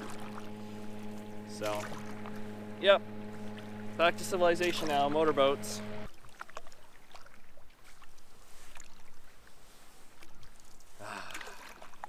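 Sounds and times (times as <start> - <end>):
paddle stroking through water: 0.0 - 12.0.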